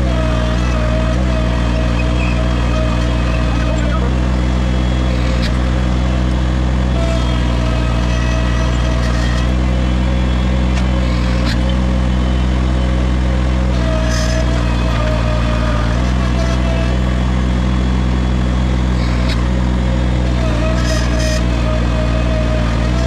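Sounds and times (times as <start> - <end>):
loader engine running: 0.0 - 23.0.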